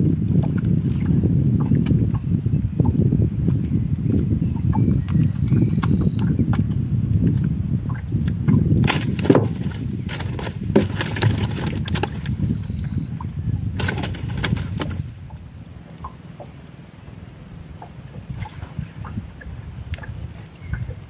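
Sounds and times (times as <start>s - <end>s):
knocks and clatter on boat: 0.0s - 21.0s.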